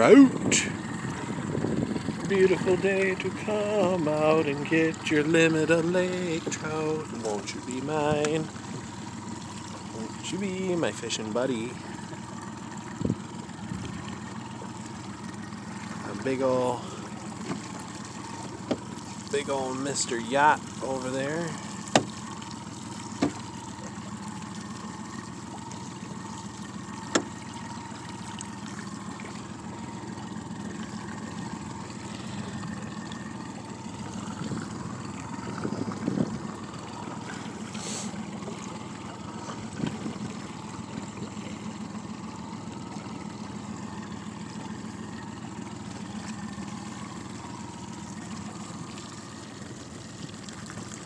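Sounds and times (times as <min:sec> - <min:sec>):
outboard motor running: 0:00.0 - 0:51.0.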